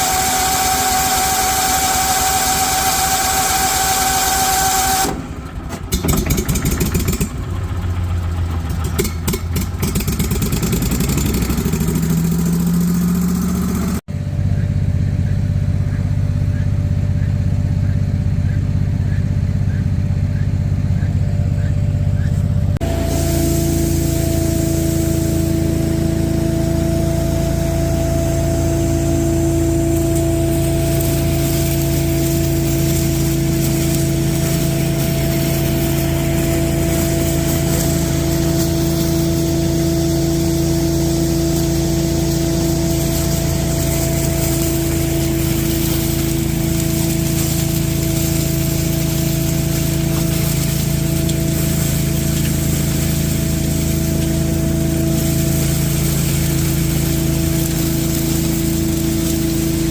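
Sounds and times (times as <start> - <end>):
debris vacuum engine and blower: 0.0 - 14.7, 22.2 - 59.9.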